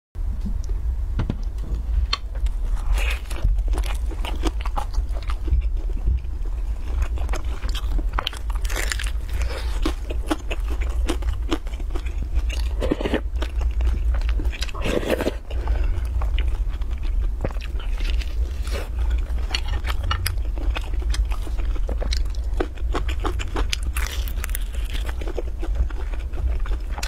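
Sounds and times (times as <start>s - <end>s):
steady low hum: 0.2s - 27.0s
crunchy chewing: 2.1s - 27.0s.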